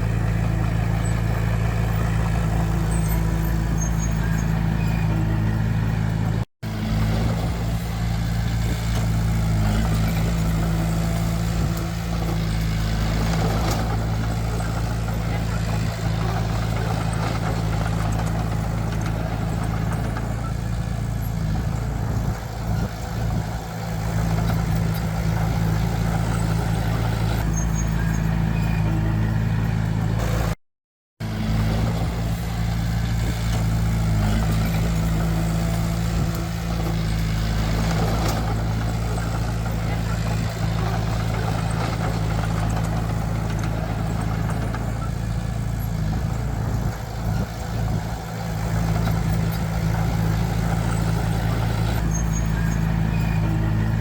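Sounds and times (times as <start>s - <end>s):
heavy diesel engine running: 0.0s - 30.6s, 31.2s - 54.0s.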